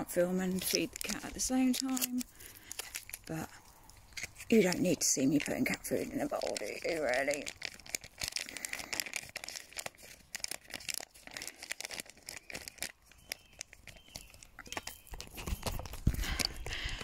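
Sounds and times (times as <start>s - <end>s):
packet crinkling and tearing: 0.0s - 17.0s.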